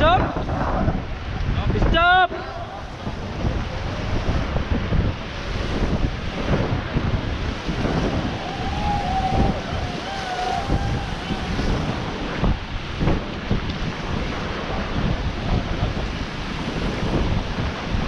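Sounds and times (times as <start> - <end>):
wind buffeting microphone: 0.0 - 18.0
river water rushing: 2.0 - 18.0.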